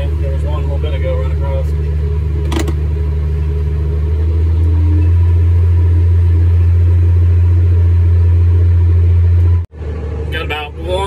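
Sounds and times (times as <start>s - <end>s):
combine harvester droning: 0.0s - 11.0s.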